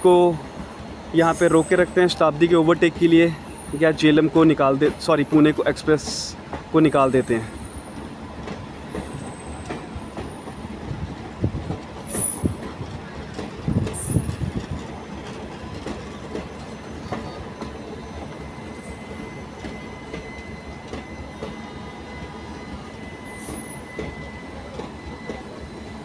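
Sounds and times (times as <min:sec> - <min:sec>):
train rumbling: 0:00.0 - 0:26.0
train knocking: 0:02.3 - 0:26.0.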